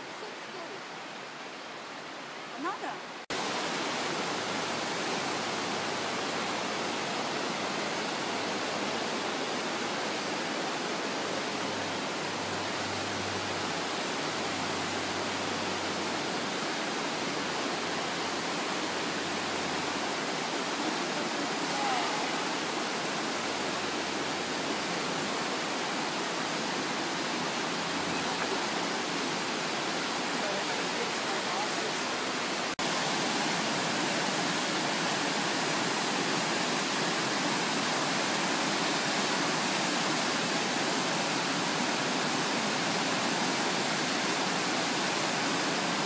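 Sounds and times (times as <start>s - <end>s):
river rushing over boulders: 0.0s - 46.0s.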